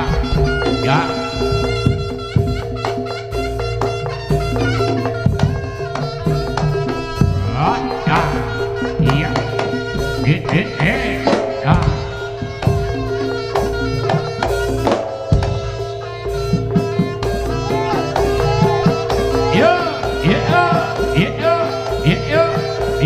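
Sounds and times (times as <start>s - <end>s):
hand drums beating: 0.0s - 23.0s
held steady note: 0.0s - 23.0s.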